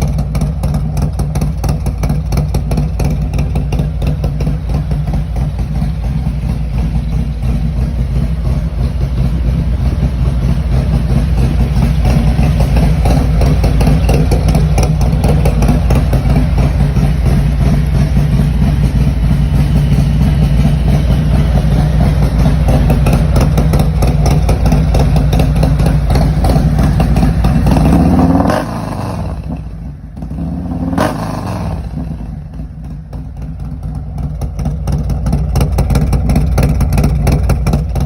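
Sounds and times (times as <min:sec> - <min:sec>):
motorcycle engine deep exhaust: 0:00.0 - 0:38.0.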